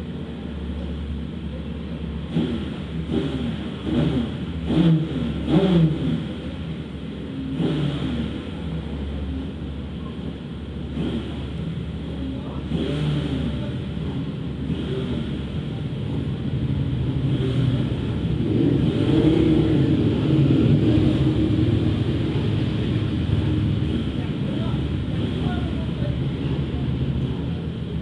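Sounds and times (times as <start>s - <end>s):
wind and road noise: 0.0s - 28.0s
race car engine revving: 2.2s - 28.0s.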